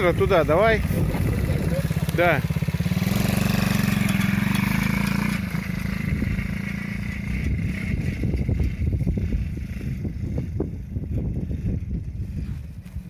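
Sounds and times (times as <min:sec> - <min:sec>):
quad bike engine buzzing: 0:00.0 - 0:13.0.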